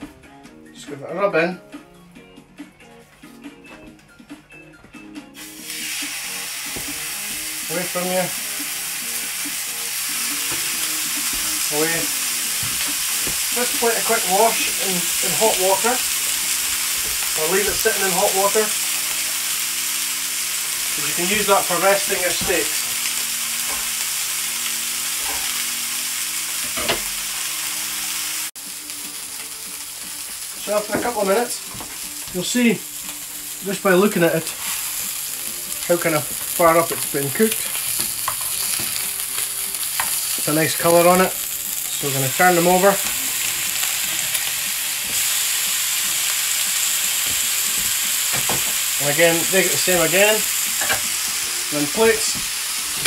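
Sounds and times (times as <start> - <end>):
steaks sizzling in a pan: 5.4 - 53.0.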